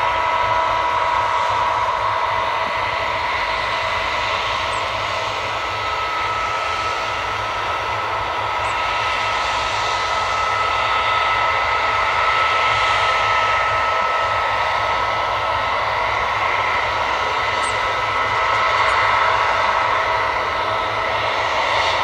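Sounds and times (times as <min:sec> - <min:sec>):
combine harvester drone: 0:00.0 - 0:22.0
high machine whine: 0:00.0 - 0:22.0.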